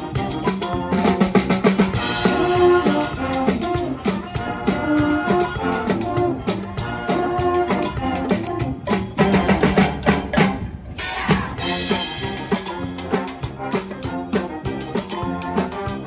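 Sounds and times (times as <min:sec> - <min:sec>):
brass band playing: 0:00.0 - 0:16.0
drum kit beat: 0:00.0 - 0:16.0.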